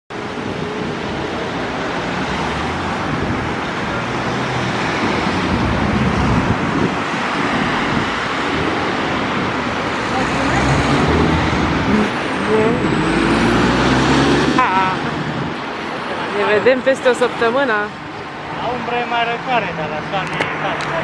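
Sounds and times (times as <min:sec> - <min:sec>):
cars driving by: 0:00.1 - 0:21.0.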